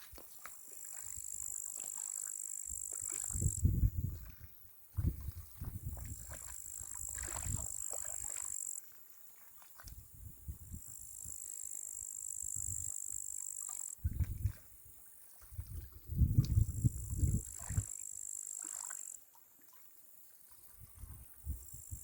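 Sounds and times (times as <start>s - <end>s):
crickets trilling: 0.0s - 19.3s, 20.1s - 22.0s.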